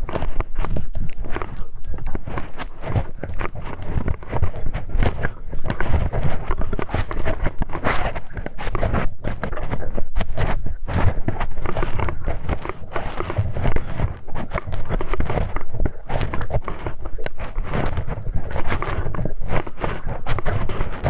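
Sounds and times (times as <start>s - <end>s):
crackly scraping in microphone ear: 0.0s - 21.0s.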